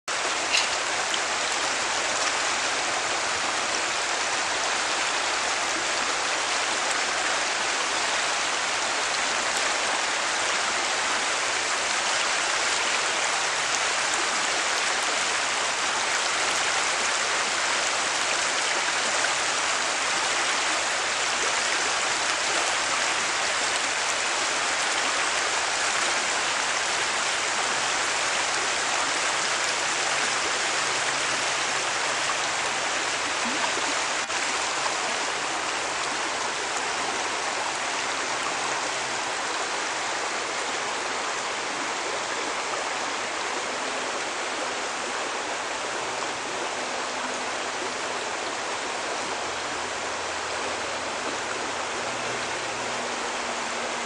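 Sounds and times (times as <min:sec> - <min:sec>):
water rushing over rocks: 0:00.1 - 0:54.0.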